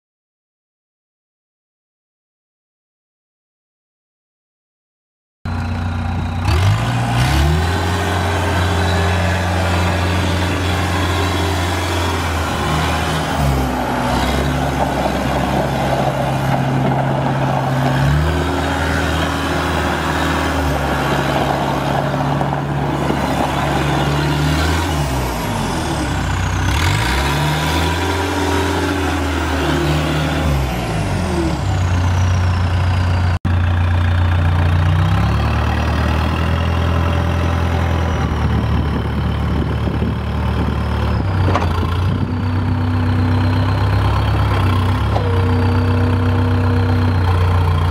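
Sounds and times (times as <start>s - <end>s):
diesel engine running: 5.5s - 47.9s.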